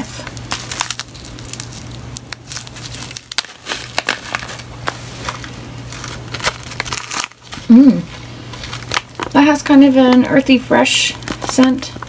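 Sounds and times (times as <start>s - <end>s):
crackly plastic rustling: 0.0s - 12.0s.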